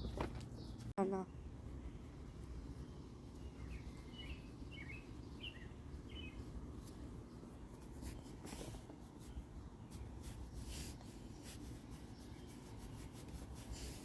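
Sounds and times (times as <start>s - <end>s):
low outdoor rumble: 0.0s - 13.8s
small bird chirping: 0.0s - 14.0s
scratchy rustles: 1.6s - 14.0s.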